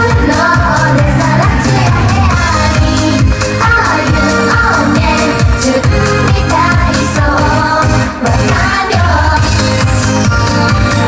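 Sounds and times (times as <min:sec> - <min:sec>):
women singing pop song: 0:00.0 - 0:10.0
steady dance beat: 0:00.0 - 0:11.0.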